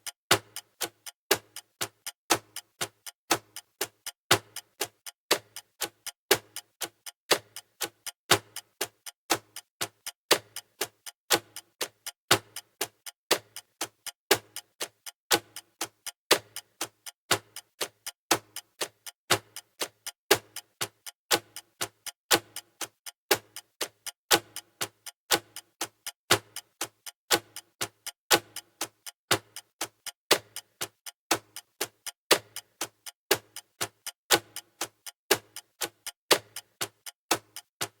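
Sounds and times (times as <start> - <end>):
countdown timer ticking: 0.0 - 38.0.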